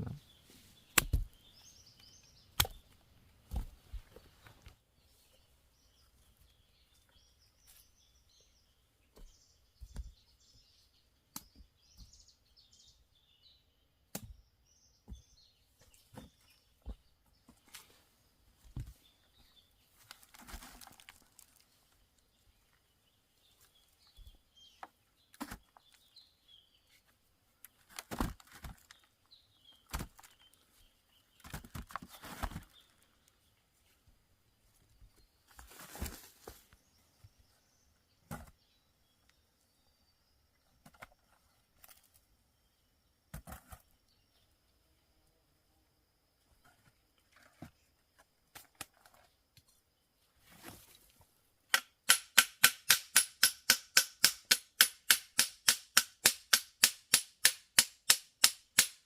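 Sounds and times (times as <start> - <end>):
small birds chirping: 0.0 - 52.1.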